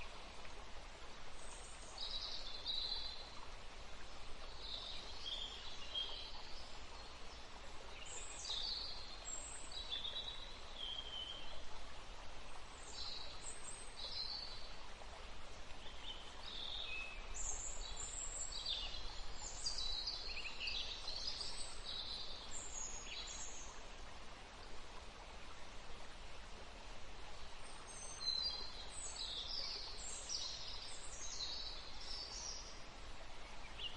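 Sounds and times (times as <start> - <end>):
faint background hiss: 0.0 - 33.9.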